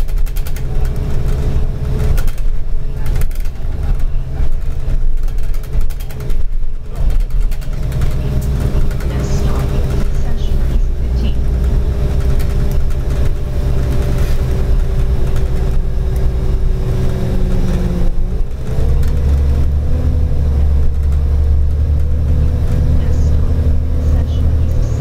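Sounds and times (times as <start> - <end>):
bus engine rumble with whine: 0.0 - 25.0.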